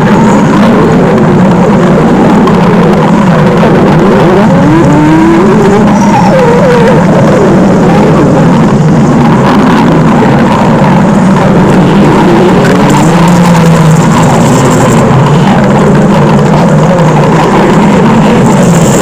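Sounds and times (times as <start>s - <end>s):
stomach growling: 0.0s - 19.0s.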